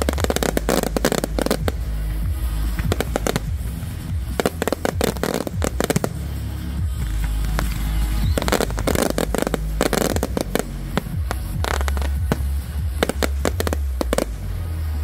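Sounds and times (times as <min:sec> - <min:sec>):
fireworks bangs and crackles: 0:00.0 - 0:15.0
steady low rumble: 0:00.0 - 0:15.0.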